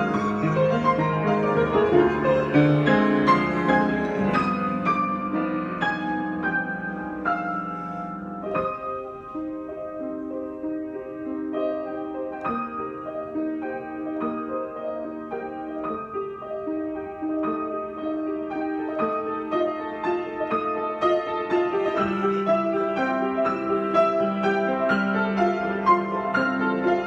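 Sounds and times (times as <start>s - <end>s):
solo piano melody: 0.0s - 27.0s.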